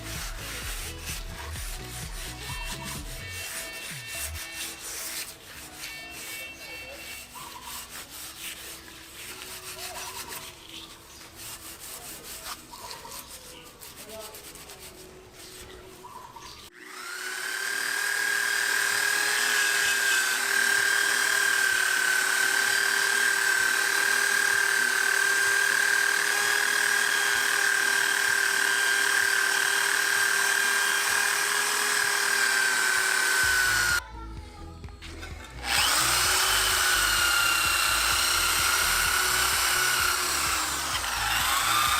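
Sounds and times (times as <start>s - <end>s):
power tool whining: 0.0s - 11.5s, 16.6s - 34.0s, 35.1s - 41.9s.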